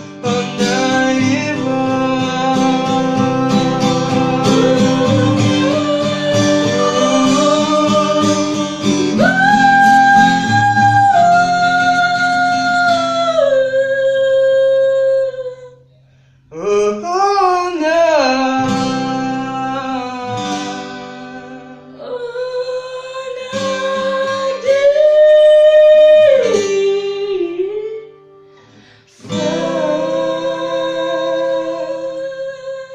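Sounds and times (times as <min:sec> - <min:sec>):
person singing slow notes: 0:00.0 - 0:28.2
acoustic guitar: 0:00.0 - 0:32.9.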